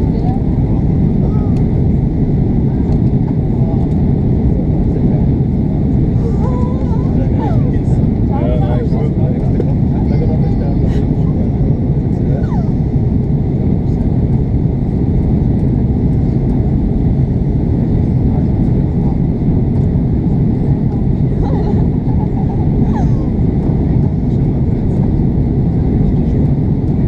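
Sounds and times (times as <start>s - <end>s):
airplane cabin roar: 0.0s - 27.0s.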